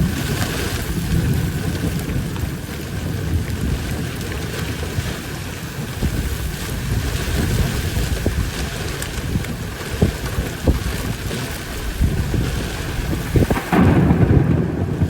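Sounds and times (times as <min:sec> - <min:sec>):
rain falling: 0:00.0 - 0:15.0
wind rumbling on microphone: 0:00.0 - 0:15.0.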